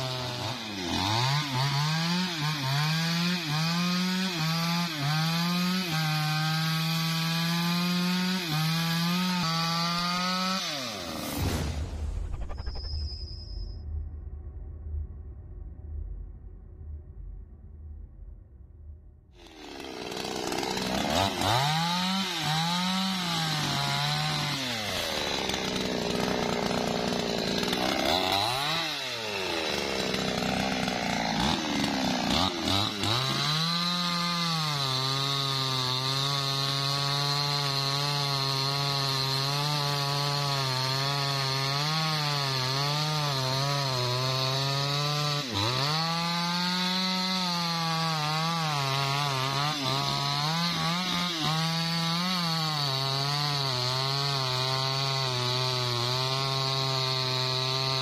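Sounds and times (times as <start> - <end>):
chainsaw cutting wood: 0.0 - 11.6, 19.4 - 58.0.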